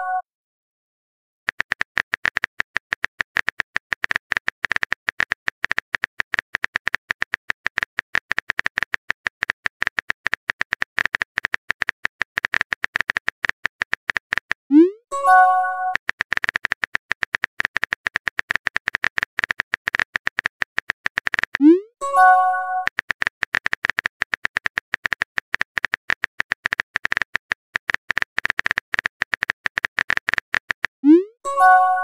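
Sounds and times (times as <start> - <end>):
phone keyboard clicks: 1.5 - 14.7, 15.9 - 21.6, 22.2 - 31.0.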